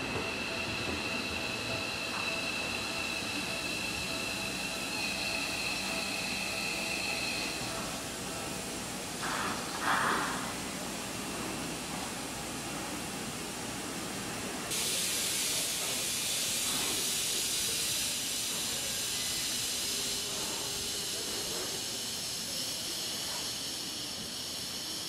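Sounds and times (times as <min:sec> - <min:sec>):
electric train hissing: 0:00.0 - 0:25.0.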